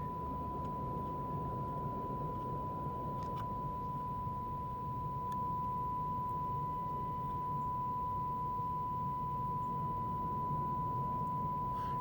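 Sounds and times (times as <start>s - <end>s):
steady test tone from speaker: 0.0s - 12.0s.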